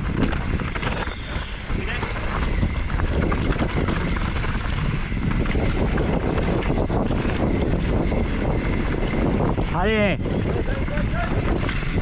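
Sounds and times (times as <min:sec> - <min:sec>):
bike chain and frame rattling: 0:00.0 - 0:12.0
bike tyres on dirt: 0:00.0 - 0:12.0
wind rushing over microphone: 0:00.0 - 0:12.0.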